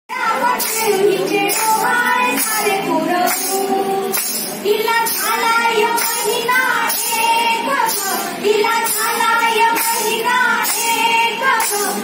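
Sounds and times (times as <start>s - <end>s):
women singing together: 0.1s - 12.0s.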